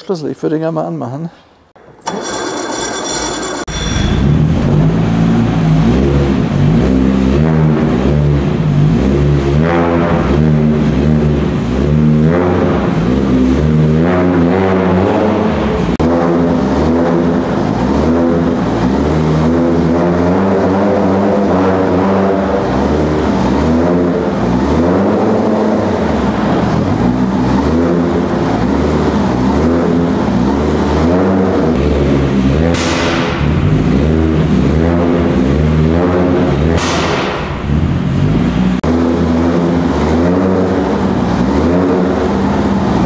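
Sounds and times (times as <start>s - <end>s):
car engine revving: 3.1s - 43.0s.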